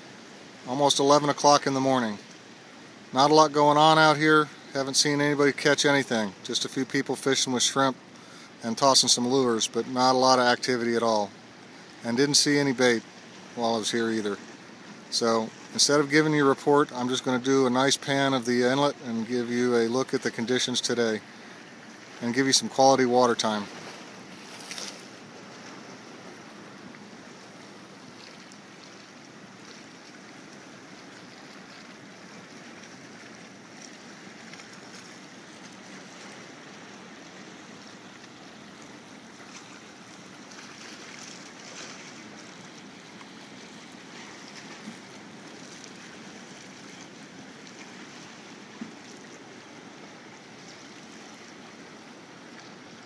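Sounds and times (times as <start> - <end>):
waves splashing against rocks: 3.1 - 53.0.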